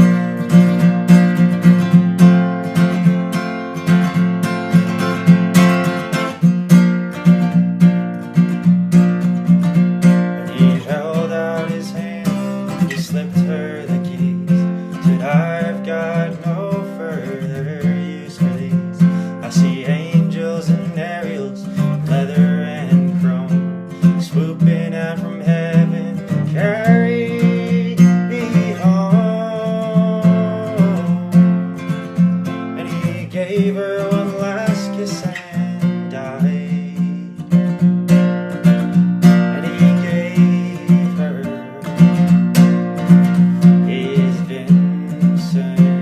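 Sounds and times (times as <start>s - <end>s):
acoustic guitar playing: 0.0s - 46.0s.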